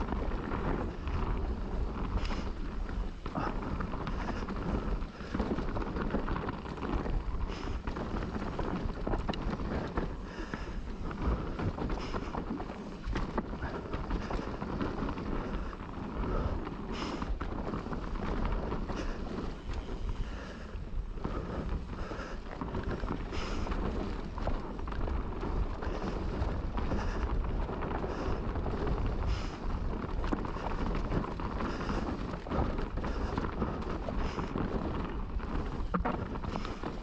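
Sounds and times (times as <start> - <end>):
bike rattling over bumps: 0.0 - 37.0
tyres rumbling on dirt: 0.0 - 37.0
wind buffeting microphone: 0.0 - 37.0.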